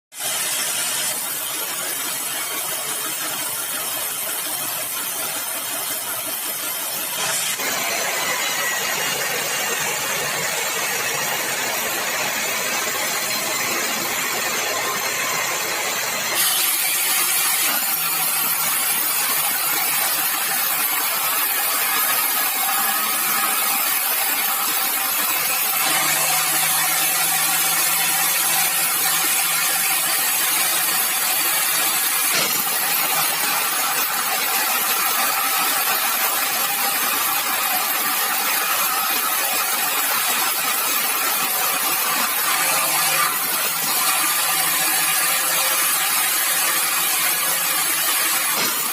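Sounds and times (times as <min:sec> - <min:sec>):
sawmill machinery running: 0:00.2 - 0:48.9.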